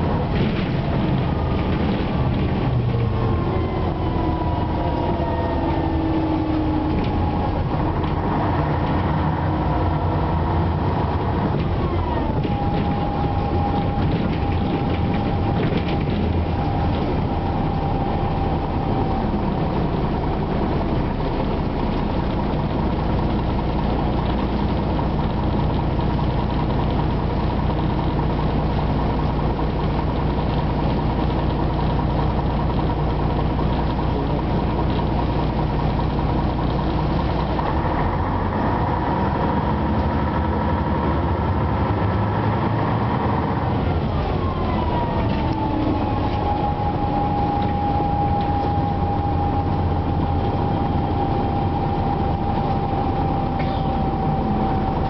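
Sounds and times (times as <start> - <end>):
transmission whine: 0.0 - 41.4, 43.0 - 55.0
bus engine drone: 0.0 - 55.0.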